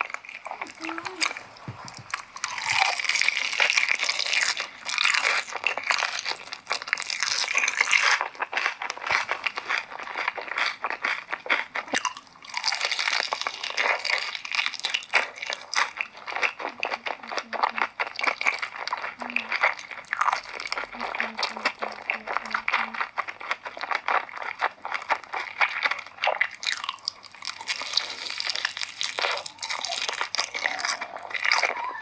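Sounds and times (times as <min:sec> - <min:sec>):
person chewing crunchy chicken: 0:00.0 - 0:32.0.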